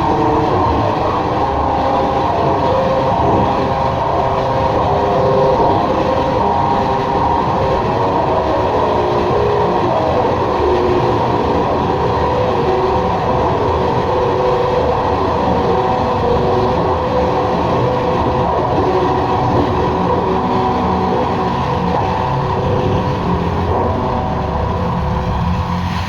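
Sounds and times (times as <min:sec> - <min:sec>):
experimental drone music: 0:00.0 - 0:26.0.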